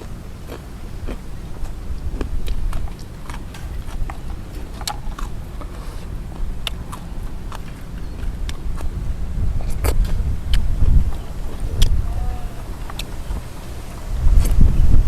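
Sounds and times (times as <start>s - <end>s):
eating clicks and smacks: 0.0s - 14.8s
wind buffeting microphone: 0.0s - 15.0s.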